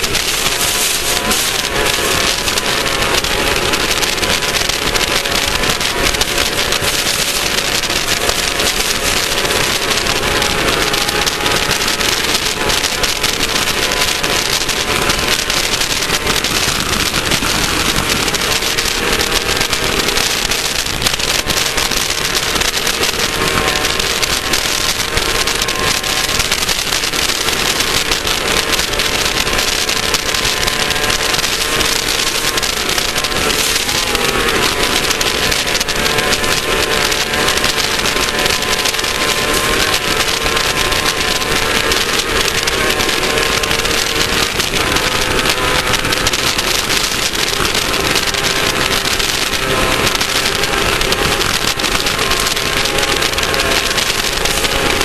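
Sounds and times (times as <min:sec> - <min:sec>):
car rattling over rough ground: 0:00.0 - 0:55.0
race car engine running hard: 0:00.0 - 0:55.0.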